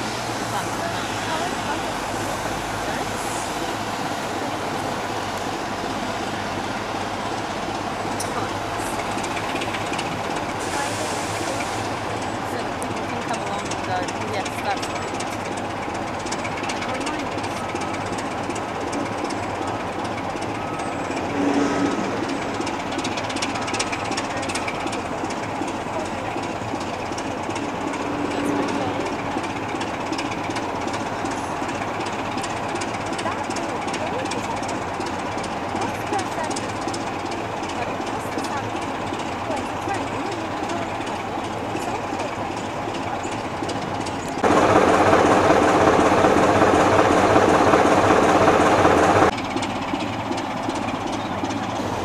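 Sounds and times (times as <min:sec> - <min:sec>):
diesel locomotive engine running: 0:00.0 - 0:52.0.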